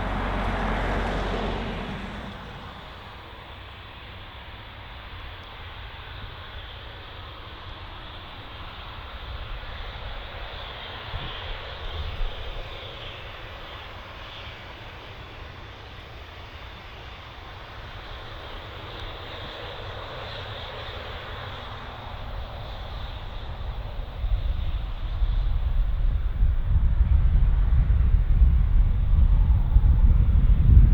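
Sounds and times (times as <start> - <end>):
aircraft engines rumbling: 0.0 - 30.9.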